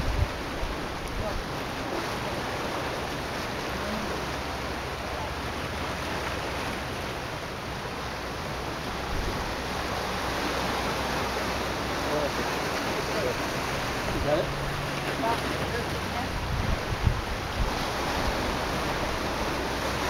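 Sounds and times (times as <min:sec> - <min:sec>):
waves washing against rocks: 0:00.0 - 0:20.0.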